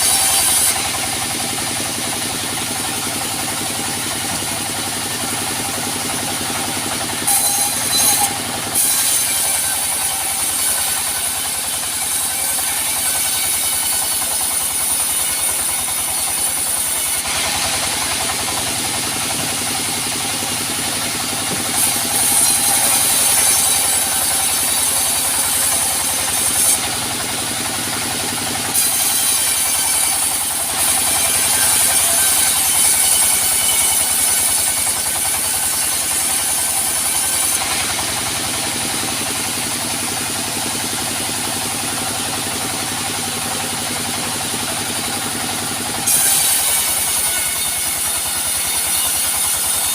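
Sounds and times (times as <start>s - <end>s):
saw blade cutting log: 0.0s - 49.9s
sawmill machine drone: 0.0s - 49.9s.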